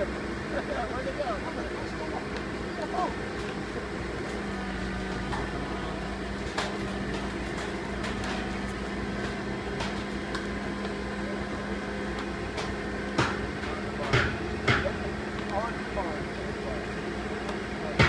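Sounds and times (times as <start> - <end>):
steady hum tone: 0.0 - 18.0.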